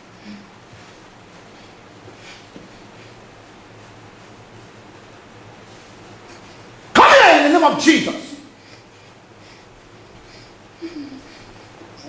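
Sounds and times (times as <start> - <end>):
faint hum: 0.0 - 12.0
room noise hiss: 0.0 - 12.0.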